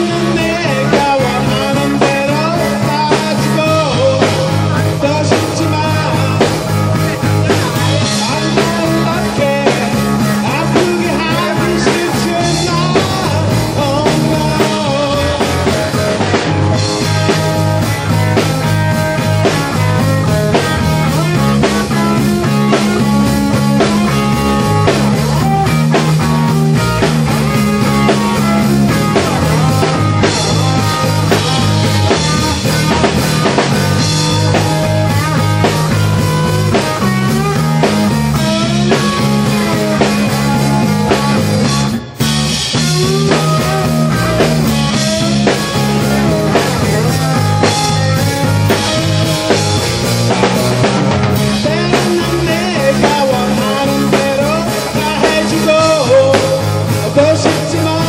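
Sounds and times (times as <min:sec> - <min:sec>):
distorted electric guitars: 0:00.0 - 0:58.0
drum kit: 0:00.0 - 0:58.0
steady low bass line: 0:00.0 - 0:58.0.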